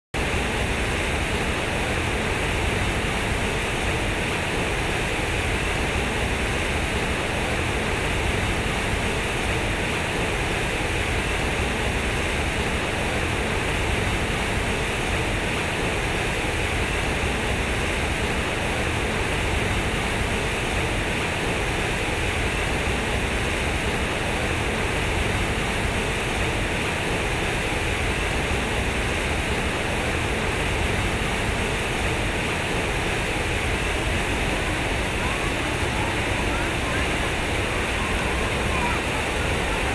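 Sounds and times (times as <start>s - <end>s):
fountain water rushing and splashing: 0.2s - 39.9s.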